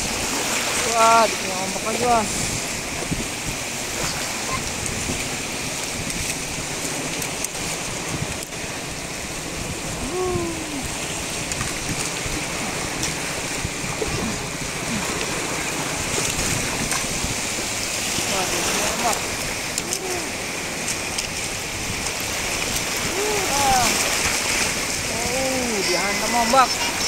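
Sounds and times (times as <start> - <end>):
waves washing over sandy beach: 0.0 - 27.0.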